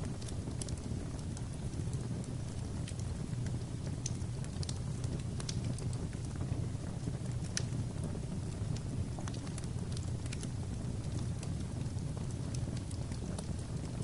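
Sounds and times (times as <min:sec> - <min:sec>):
fire crackles and pops: 0:00.0 - 0:14.0
fire rumbling in fireplace: 0:00.0 - 0:14.0.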